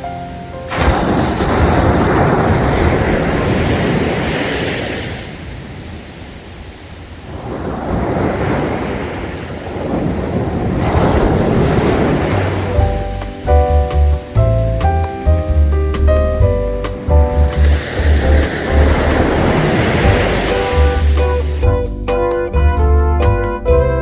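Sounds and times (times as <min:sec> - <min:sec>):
sea waves breaking on shore: 0:00.0 - 0:16.0, 0:16.8 - 0:21.7.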